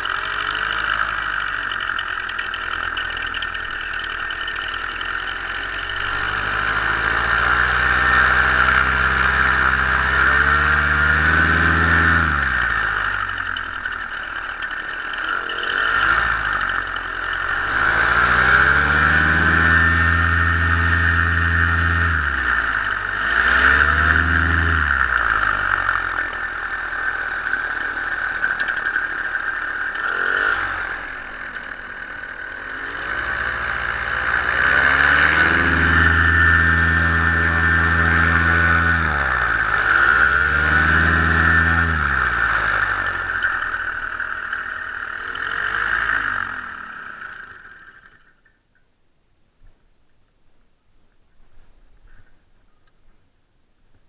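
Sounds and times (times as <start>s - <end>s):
two-stroke engine revving: 0.0s - 48.4s.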